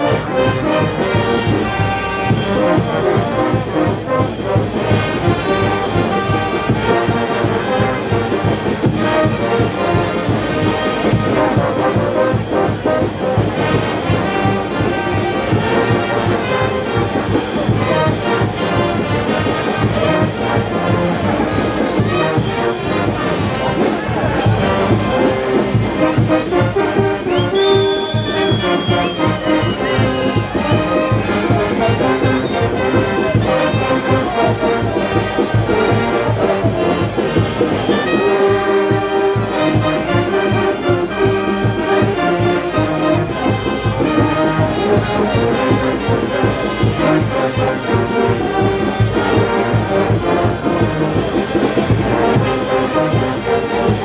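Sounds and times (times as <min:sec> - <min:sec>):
brass band playing: 0:00.0 - 0:54.0
steady drum beat: 0:00.0 - 0:54.0.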